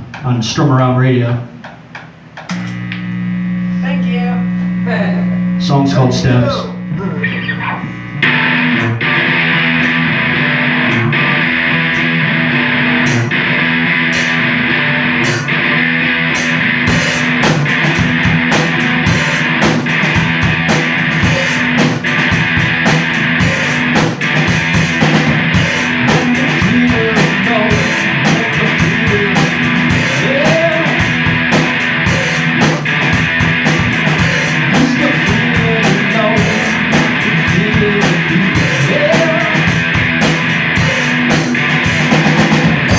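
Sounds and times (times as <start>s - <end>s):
loud electric guitar: 2.4s - 42.9s
drum kit: 8.2s - 42.9s.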